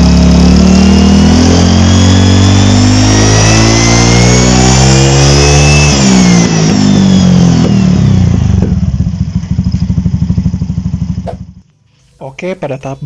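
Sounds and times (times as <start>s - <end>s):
high whine from engine: 0.0s - 11.7s
scooter engine revving: 0.0s - 11.7s.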